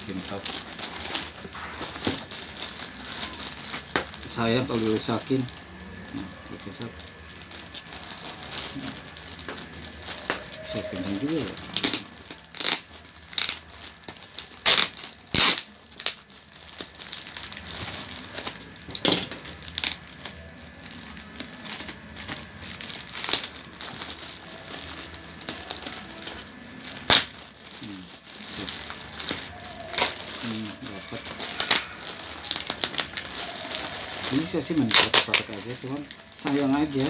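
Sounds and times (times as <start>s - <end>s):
plastic bag crinkling: 0.0s - 37.0s.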